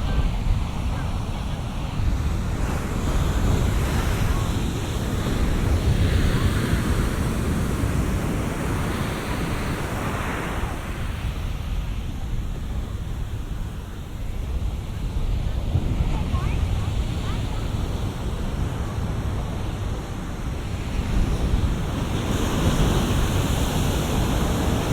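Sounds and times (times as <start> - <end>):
ocean waves breaking: 0.0 - 24.9
wind rumble on microphone: 0.0 - 24.9.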